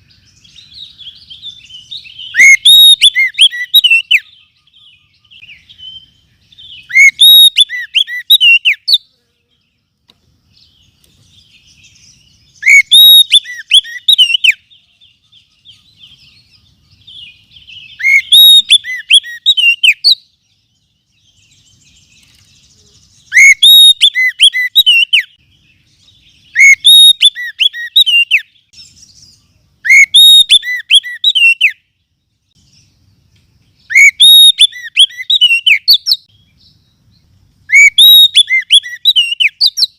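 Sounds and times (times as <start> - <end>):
bird whistled song phrases: 0.0 - 9.2, 10.6 - 32.9, 33.8 - 36.8, 37.7 - 39.9
faint bird twittering: 0.0 - 39.9.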